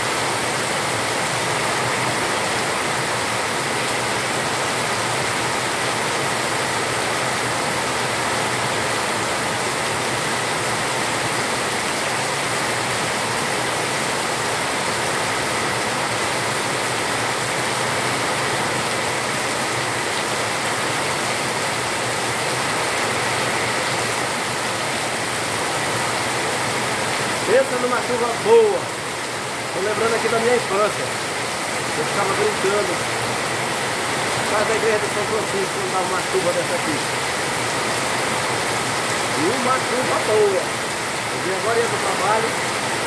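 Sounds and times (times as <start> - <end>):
heavy rain on concrete: 0.0 - 43.0.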